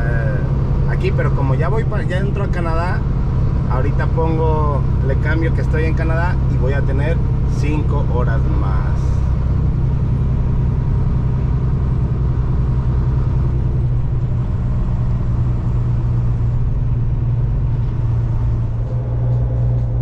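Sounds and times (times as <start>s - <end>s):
diesel truck engine droning: 0.0s - 20.0s
road noise: 0.0s - 20.0s.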